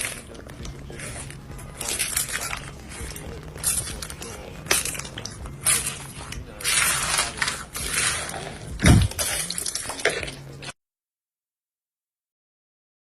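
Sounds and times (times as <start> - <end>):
slime squishing and crackling: 0.0 - 10.7.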